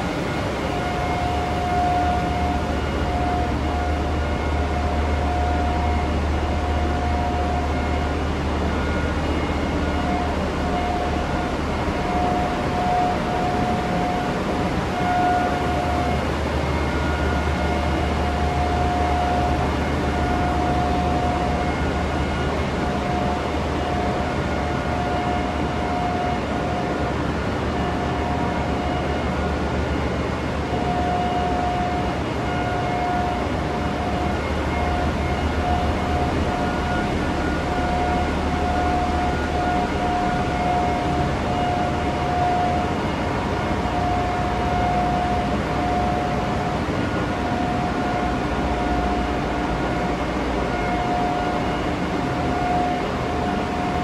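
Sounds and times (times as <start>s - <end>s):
engine room machinery rumbling: 0.0s - 54.0s
high machinery whine: 0.0s - 54.0s.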